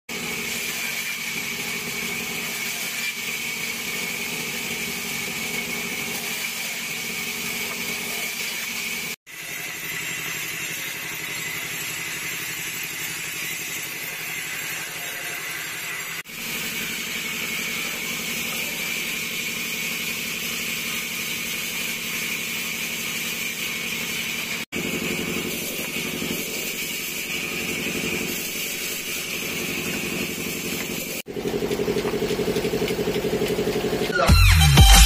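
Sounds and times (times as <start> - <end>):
band saw cutting wood: 0.1 - 35.0.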